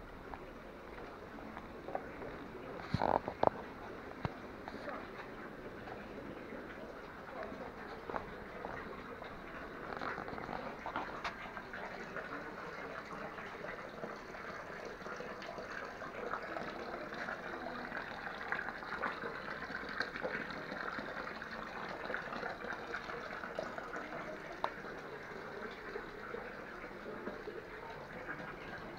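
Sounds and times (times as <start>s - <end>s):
water pouring into stone basin: 0.1s - 28.9s.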